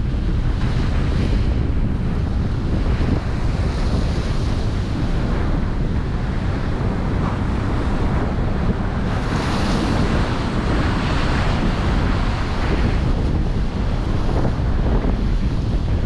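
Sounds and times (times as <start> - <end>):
waves breaking: 0.0 - 16.0
wind buffeting microphone: 0.0 - 16.0.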